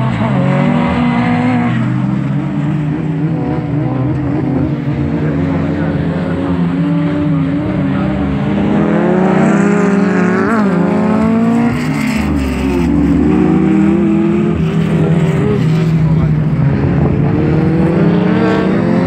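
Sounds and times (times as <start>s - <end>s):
race car engines revving: 0.0s - 19.0s.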